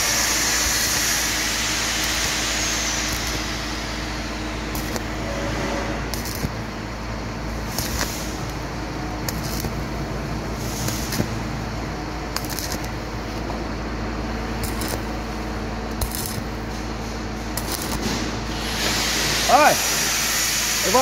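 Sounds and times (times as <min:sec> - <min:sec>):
welding arc crackling and sizzling: 0:00.0 - 0:21.0.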